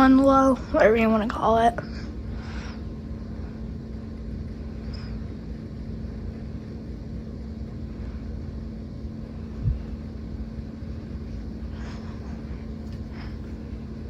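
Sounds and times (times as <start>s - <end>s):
ceiling fan humming: 0.0s - 14.0s.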